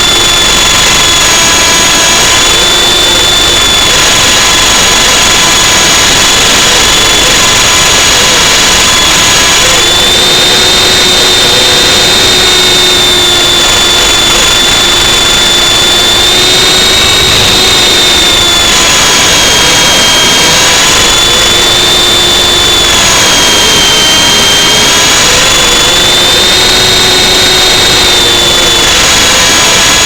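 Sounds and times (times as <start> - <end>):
model helicopter motor whine: 0.0 - 30.0.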